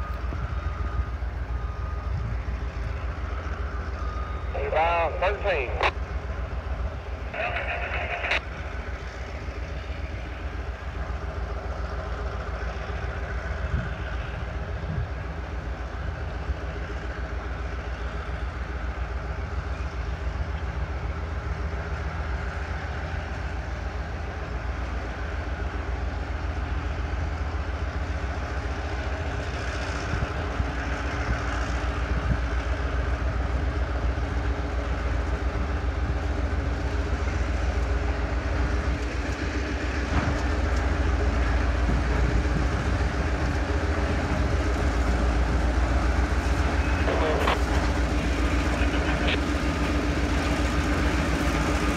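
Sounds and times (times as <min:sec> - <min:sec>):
diesel locomotive engine rumble: 0:00.0 - 0:51.9.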